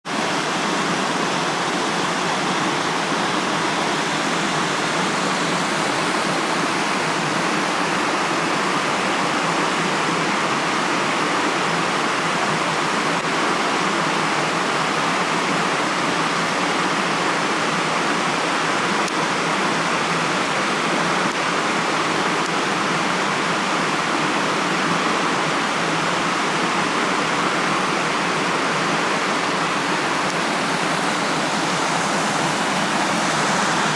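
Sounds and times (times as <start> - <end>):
stream and waterfall rushing: 0.0 - 33.9.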